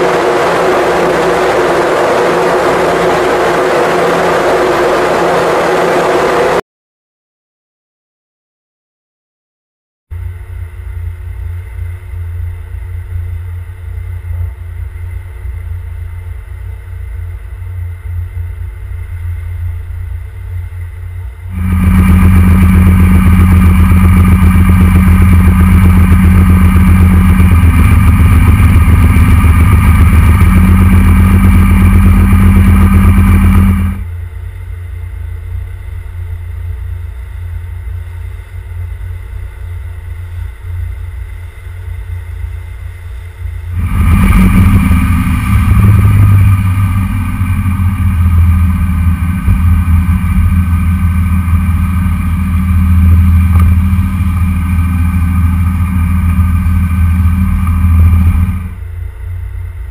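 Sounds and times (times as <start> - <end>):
boat engine running at speed: 0.0 - 6.6, 10.1 - 59.9
engine rumble: 0.0 - 6.6, 10.1 - 59.9.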